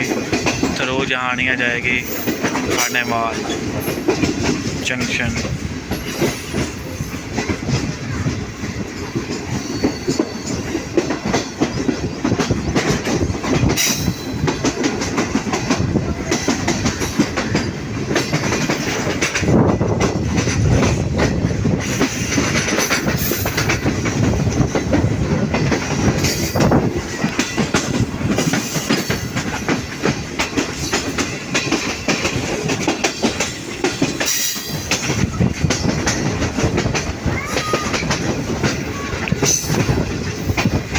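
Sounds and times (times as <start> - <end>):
train coaches rumbling: 0.0 - 40.9
wheels clacking over rail joints: 0.0 - 40.9.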